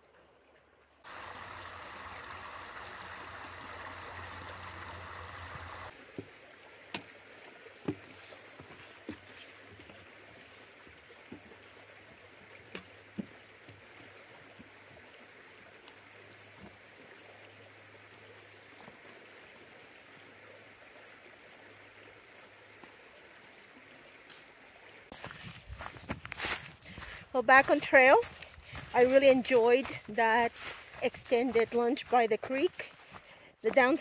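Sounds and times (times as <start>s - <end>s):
creek water flowing: 0.0s - 34.0s.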